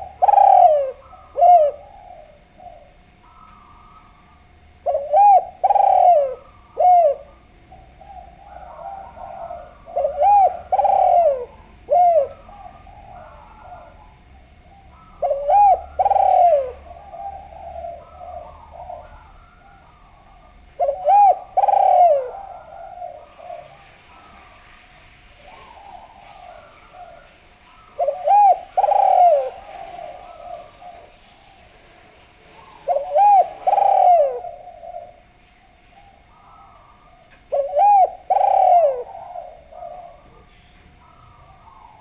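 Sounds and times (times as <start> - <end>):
dove cooing: 0.0 - 42.0
faint cooing: 0.0 - 42.0.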